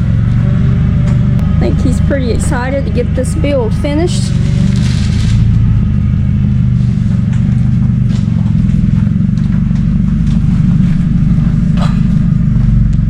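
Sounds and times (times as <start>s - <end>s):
pickup engine idling loudly: 0.0s - 13.0s.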